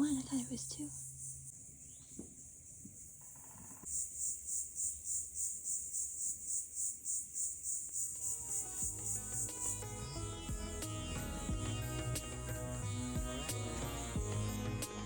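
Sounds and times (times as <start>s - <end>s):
insects calling in pulsing chorus: 0.0s - 15.0s.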